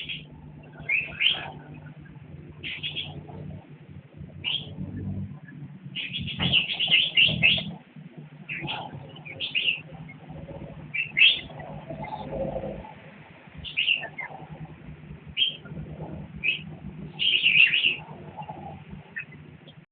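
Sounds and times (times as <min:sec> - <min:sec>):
bird chirps: 0:00.0 - 0:03.6, 0:04.4 - 0:07.8, 0:08.4 - 0:13.0, 0:13.6 - 0:14.6, 0:15.3 - 0:19.8
low steady hum: 0:00.0 - 0:19.9.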